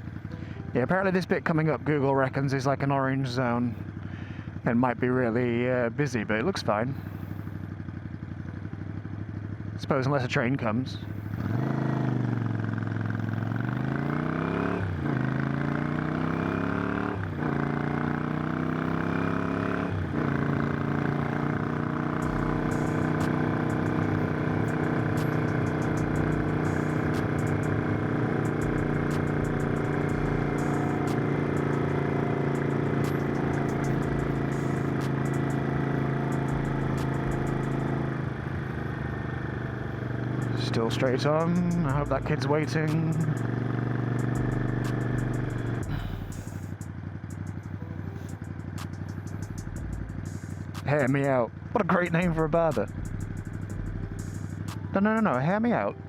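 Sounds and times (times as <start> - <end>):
motorcycle engine accelerating: 6.3 - 9.9, 10.5 - 56.0.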